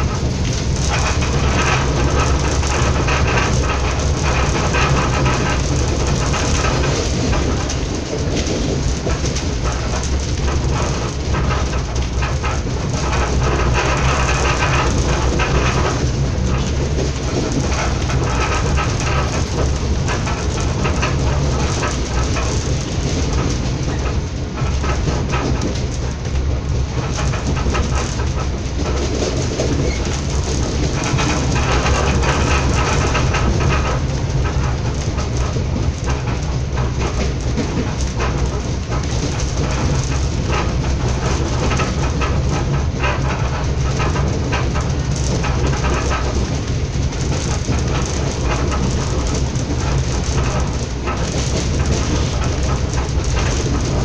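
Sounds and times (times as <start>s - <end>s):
wheel-on-rail noise: 0.0s - 54.0s.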